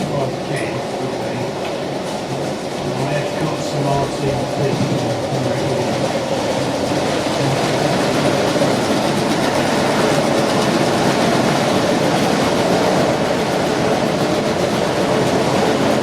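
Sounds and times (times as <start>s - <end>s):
model train wheels on rail: 0.0s - 16.0s.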